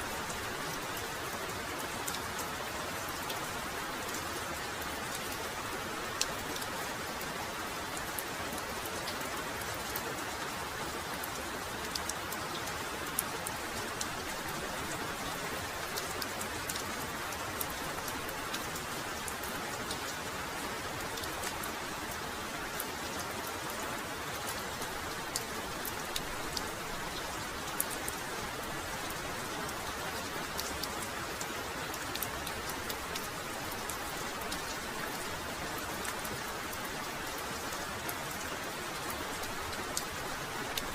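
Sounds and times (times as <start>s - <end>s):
raindrops pattering on surfaces: 0.0s - 40.9s.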